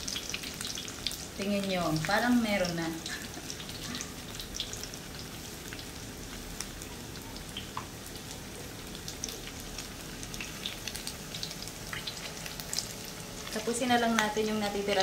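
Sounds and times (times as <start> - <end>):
pork sizzling in fat: 0.0 - 15.0.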